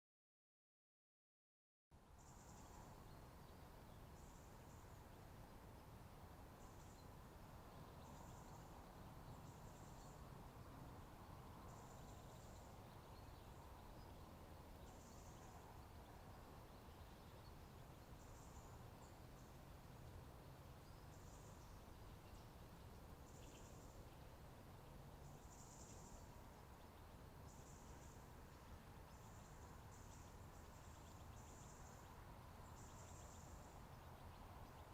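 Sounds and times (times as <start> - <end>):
steady low hiss: 2.0 - 34.9.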